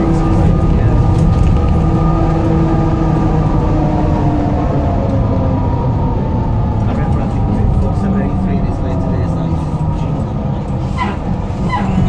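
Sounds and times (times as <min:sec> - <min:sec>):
bus diesel engine working hard: 0:00.0 - 0:12.0.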